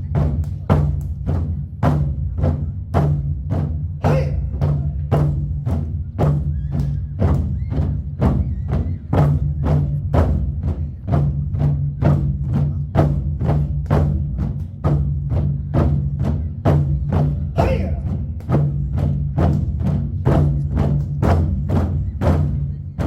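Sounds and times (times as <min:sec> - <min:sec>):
barrel drums beaten with sticks: 0:00.0 - 0:23.0.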